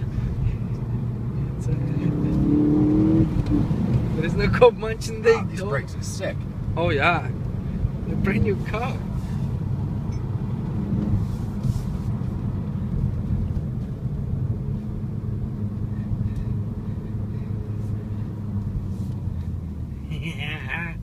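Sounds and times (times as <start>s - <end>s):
car engine hum: 0.0s - 21.0s
road rumble: 0.0s - 21.0s.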